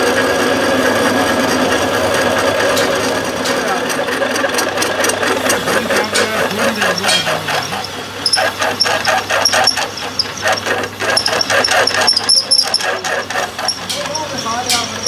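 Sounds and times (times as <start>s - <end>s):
drill cutting steel harshly: 1.8s - 15.0s.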